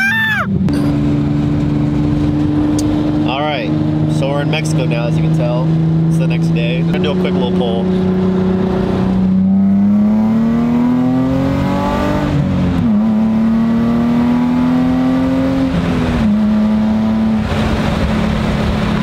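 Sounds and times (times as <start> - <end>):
car exhaust accelerating: 0.0 - 19.0.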